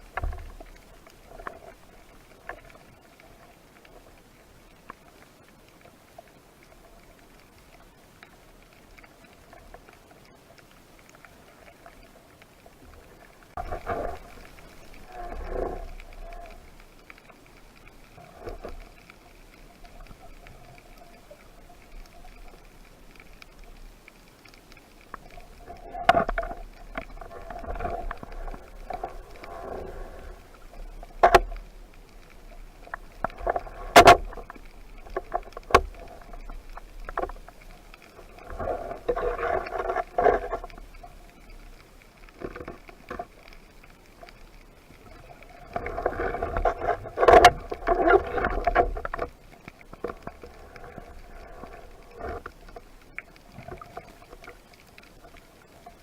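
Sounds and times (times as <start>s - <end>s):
water sloshing and rushing: 0.0s - 56.0s.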